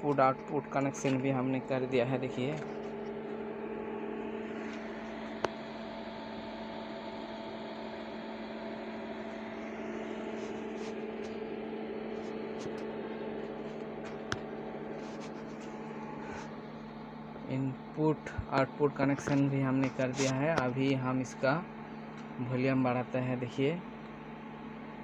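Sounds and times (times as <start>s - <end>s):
amplifier electrical hum: 0.0s - 25.0s.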